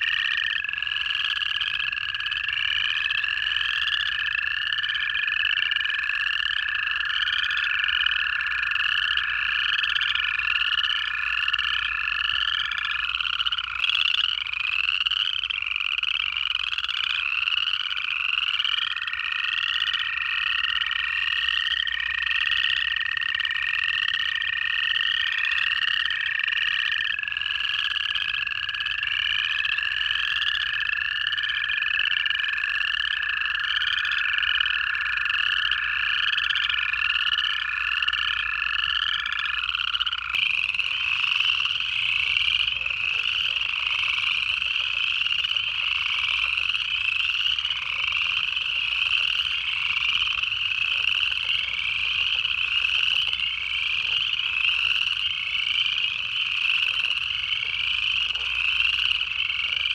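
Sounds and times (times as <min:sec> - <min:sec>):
chorus frogs trilling: 0:00.0 - 0:59.9
toad long steady trills: 0:00.0 - 0:59.9.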